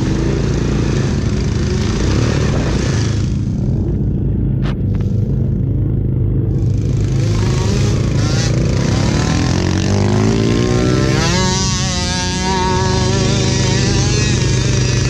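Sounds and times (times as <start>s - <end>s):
quad engine droning: 0.0s - 15.0s.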